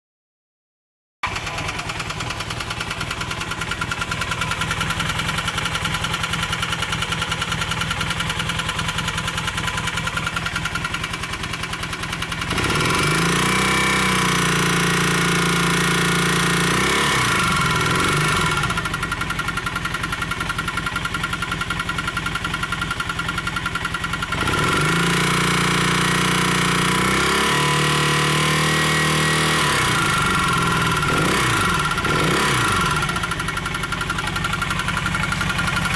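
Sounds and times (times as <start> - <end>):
motorcycle engine revving: 1.2 - 35.9.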